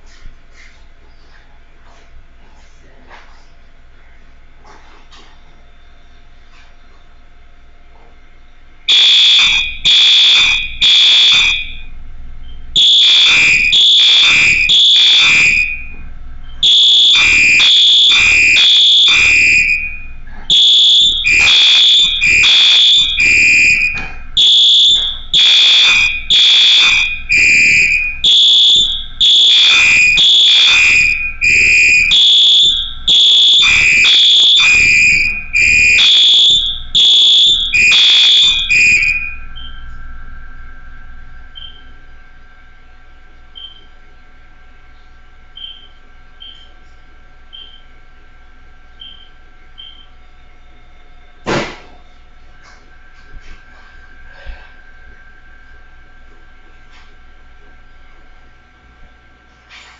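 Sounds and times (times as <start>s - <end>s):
fire alarm horns buzzing: 8.8s - 59.5s.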